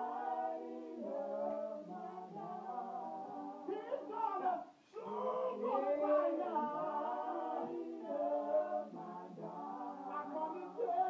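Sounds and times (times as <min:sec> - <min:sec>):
vocal group singing in harmony: 0:00.0 - 0:11.0.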